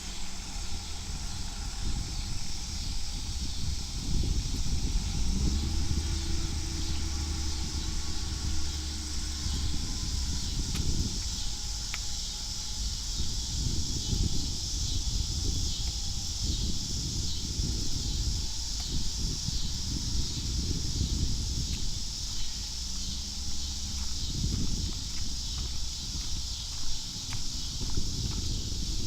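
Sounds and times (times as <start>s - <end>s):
insects droning: 0.0s - 29.0s
vehicle engine hum: 0.0s - 29.0s
wind buffeting microphone: 0.0s - 29.0s.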